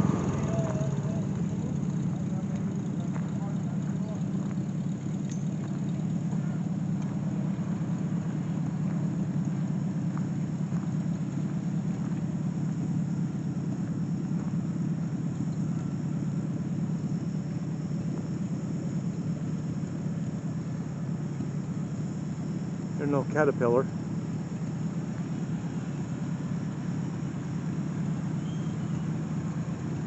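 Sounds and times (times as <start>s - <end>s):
steady low engine rumble: 0.0s - 30.0s.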